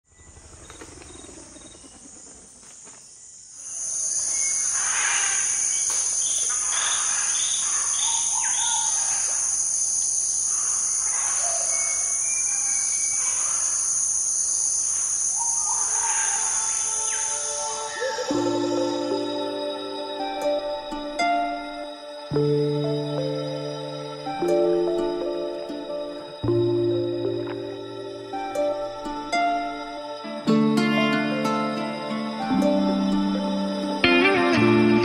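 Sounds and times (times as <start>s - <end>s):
high insect drone: 0.0s - 35.0s
birds calling and whistling: 3.7s - 34.1s.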